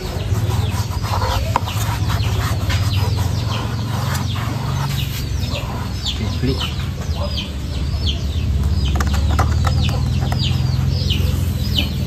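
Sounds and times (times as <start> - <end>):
birds peeping: 0.0 - 12.0.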